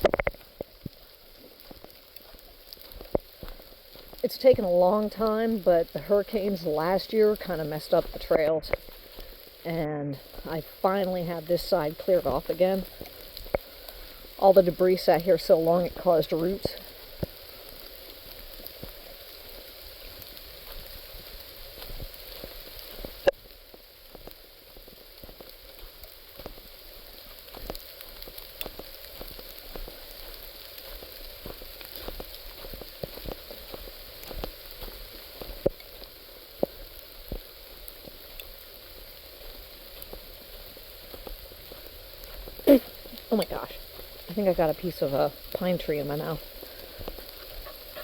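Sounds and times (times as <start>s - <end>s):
light rain pattering on leaves: 0.0s - 48.0s.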